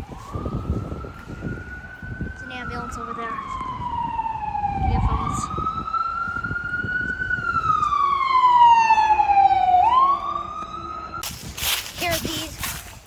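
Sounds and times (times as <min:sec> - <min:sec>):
ambulance siren wailing: 0:00.0 - 0:11.3.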